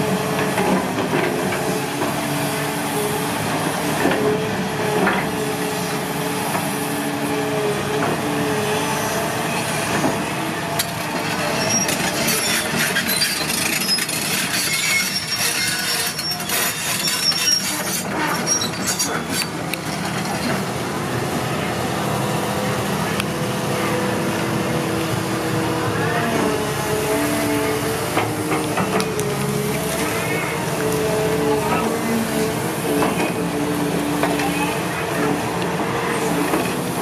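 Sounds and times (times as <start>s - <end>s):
excavator engine and hydraulics: 0.0s - 37.0s.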